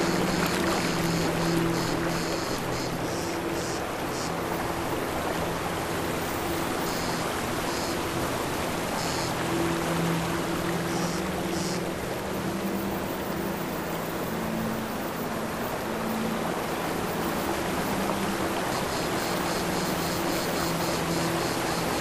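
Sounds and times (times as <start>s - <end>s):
ambient drone music: 0.0s - 22.0s.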